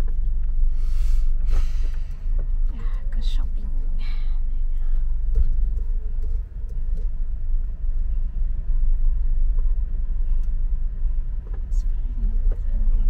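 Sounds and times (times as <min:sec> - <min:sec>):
car engine and road noise inside: 0:00.0 - 0:13.0.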